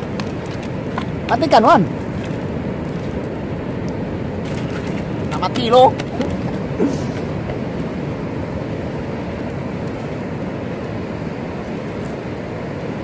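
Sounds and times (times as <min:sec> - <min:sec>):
ocean surf rumbling: 0:00.0 - 0:13.0.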